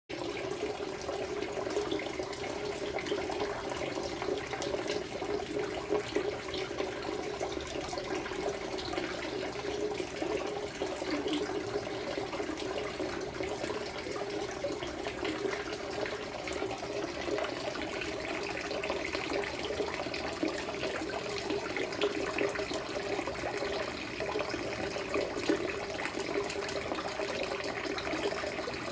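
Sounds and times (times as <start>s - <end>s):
fish tank water splashing: 0.1s - 28.9s.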